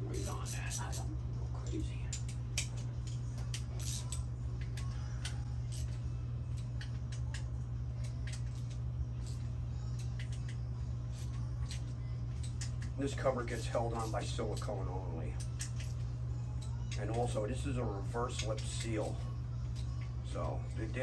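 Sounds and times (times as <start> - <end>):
steady low hum: 0.0 - 21.0
tools and metal parts clicking: 0.0 - 21.0.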